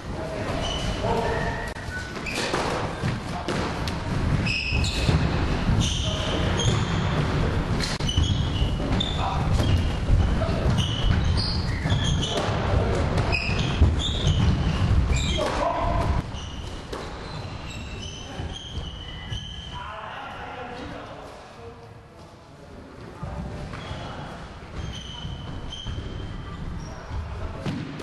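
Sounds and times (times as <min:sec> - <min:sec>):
sneakers squeaking on wood: 0:00.4 - 0:03.7, 0:04.3 - 0:19.9, 0:23.3 - 0:27.5.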